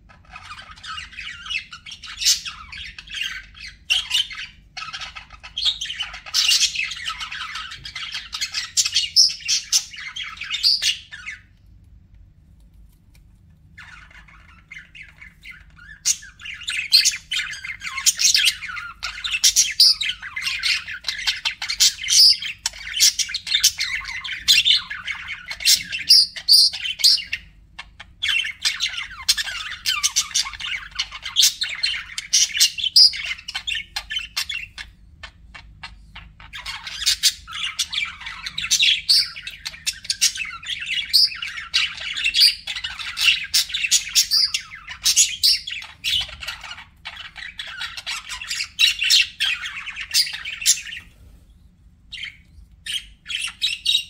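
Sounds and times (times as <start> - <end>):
budgerigars chattering: 0.1 - 11.5, 13.8 - 51.1, 52.1 - 54.0.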